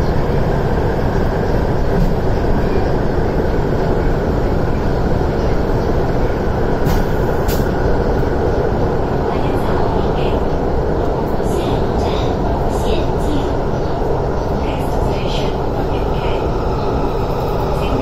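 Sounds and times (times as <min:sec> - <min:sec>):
train wheels on rail: 0:00.0 - 0:18.0.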